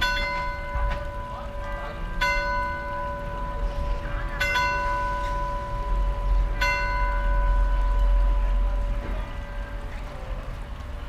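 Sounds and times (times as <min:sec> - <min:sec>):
bell tolling: 0:00.0 - 0:09.7
low rumble: 0:00.0 - 0:11.0.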